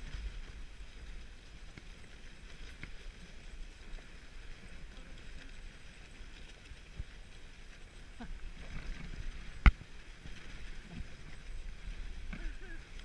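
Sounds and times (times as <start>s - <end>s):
sled rattling over snow: 0.0s - 13.0s.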